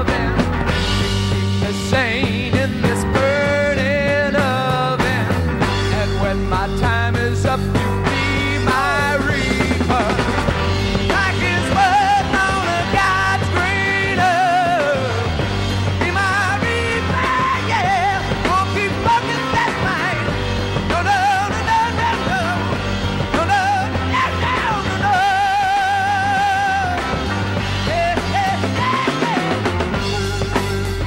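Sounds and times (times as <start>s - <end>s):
drum kit: 0.0s - 31.0s
electric bass: 0.0s - 31.0s
electric guitar: 0.0s - 31.0s.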